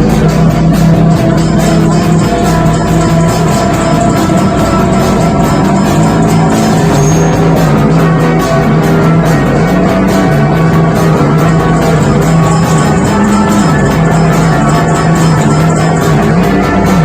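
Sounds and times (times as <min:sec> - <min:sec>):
live band playing psychedelic jam: 0:00.0 - 0:17.0.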